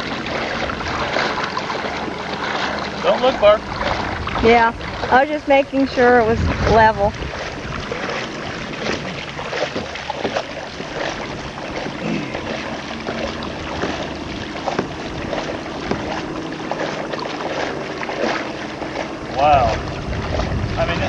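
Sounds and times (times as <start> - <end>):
shallow water splashing: 0.0 - 21.0
steady water wash: 0.0 - 21.0.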